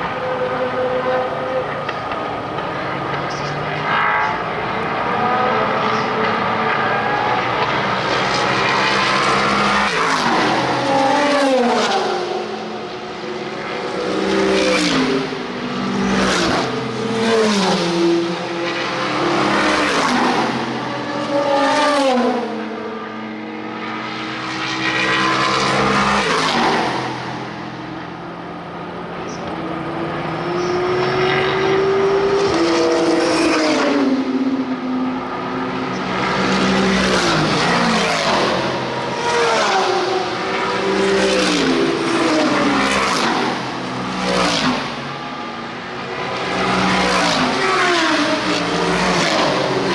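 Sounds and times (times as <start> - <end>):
race car engines downshifting: 0.0 - 49.9.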